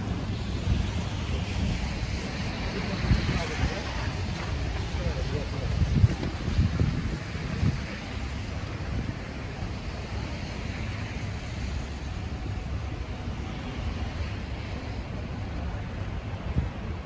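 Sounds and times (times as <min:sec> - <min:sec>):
street traffic rush: 0:00.0 - 0:17.0
wind on microphone: 0:00.0 - 0:17.0.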